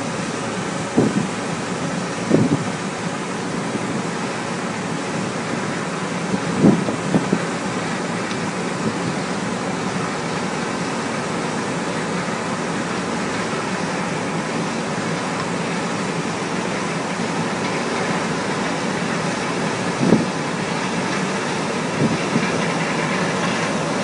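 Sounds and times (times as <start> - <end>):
harvest machinery droning: 0.0 - 24.0.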